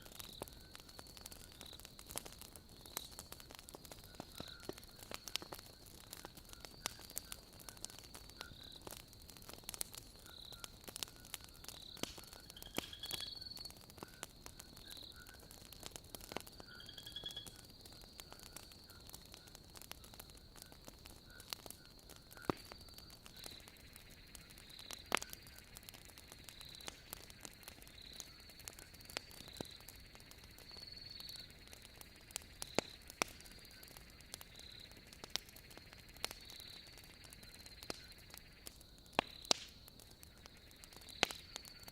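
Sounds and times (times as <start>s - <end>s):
crickets chirping: 0.0s - 41.9s
wood fire crackling and popping: 0.0s - 41.9s.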